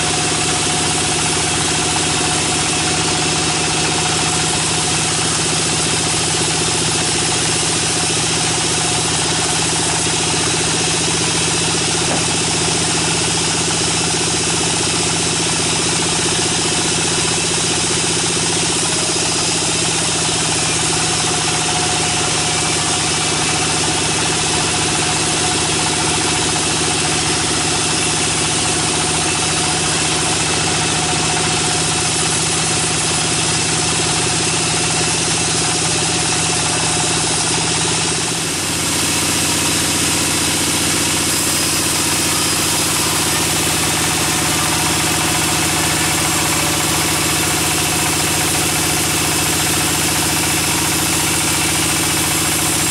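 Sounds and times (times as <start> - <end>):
band saw cutting log: 0.0 - 52.9
machine drive droning: 0.0 - 52.9.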